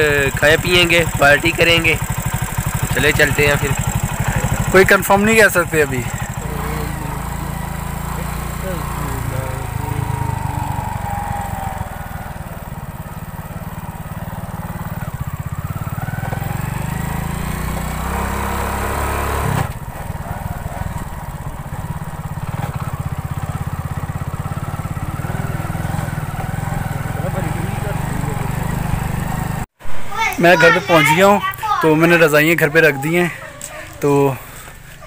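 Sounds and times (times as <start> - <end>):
motorcycle engine running: 0.0 - 29.7.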